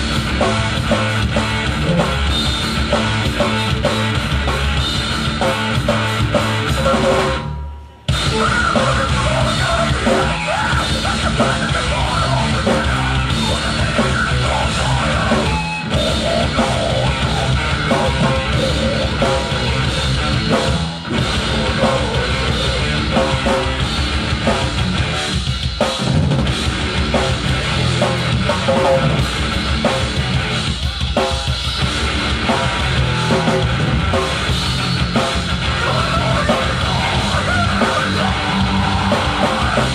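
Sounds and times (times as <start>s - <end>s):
drum kit: 0.0s - 39.9s
live rock band music: 0.0s - 39.9s.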